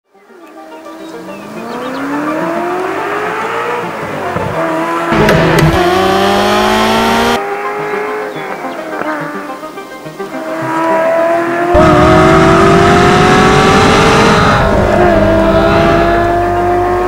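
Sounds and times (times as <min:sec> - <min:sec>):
car engine accelerating hard: 0:01.0 - 0:08.4, 0:10.3 - 0:17.0.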